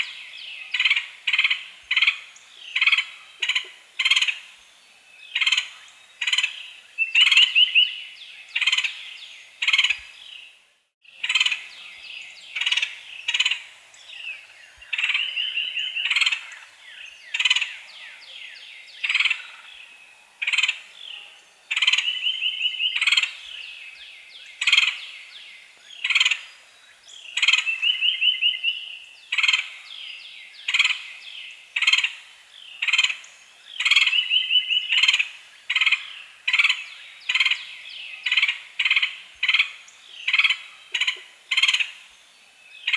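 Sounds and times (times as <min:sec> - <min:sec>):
woodpecker calling: 0:00.0 - 0:04.6, 0:05.3 - 0:10.4, 0:11.1 - 0:19.8, 0:20.4 - 0:23.9, 0:27.2 - 0:29.8, 0:31.8 - 0:42.1.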